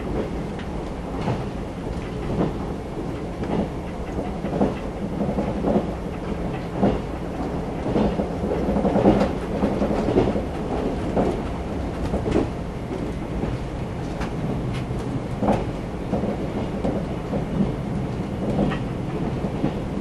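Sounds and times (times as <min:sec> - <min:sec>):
train running rumble and hum: 0:00.0 - 0:20.0
wheels clacking on track: 0:00.0 - 0:20.0.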